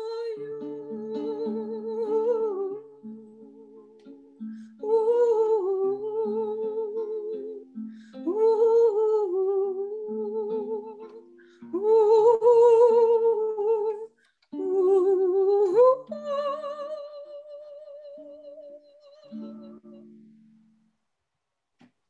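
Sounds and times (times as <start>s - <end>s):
woman singing wordless melody: 0.0s - 20.3s.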